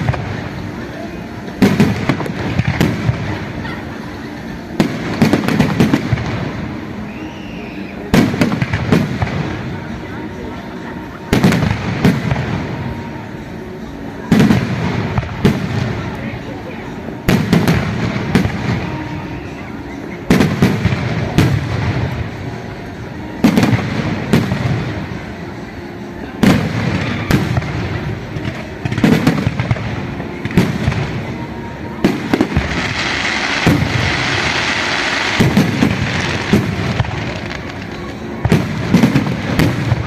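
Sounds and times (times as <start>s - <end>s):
fireworks bangs: 0.0s - 40.0s
fireworks crackling hiss: 0.0s - 40.0s.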